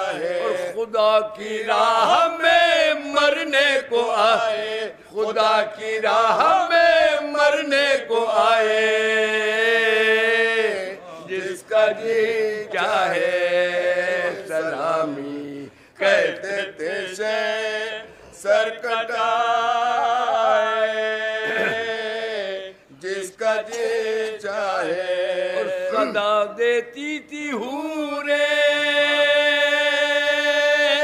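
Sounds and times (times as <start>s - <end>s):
men singing a lament: 0.0s - 31.0s.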